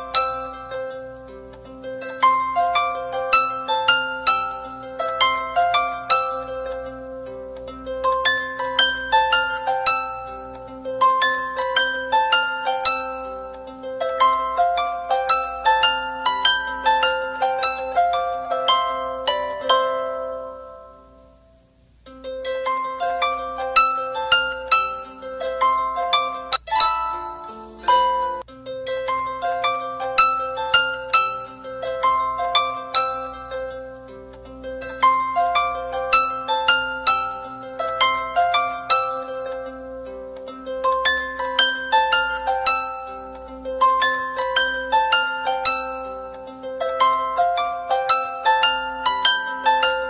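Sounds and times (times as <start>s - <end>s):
plucked string music: 0.0s - 21.4s, 22.0s - 50.0s.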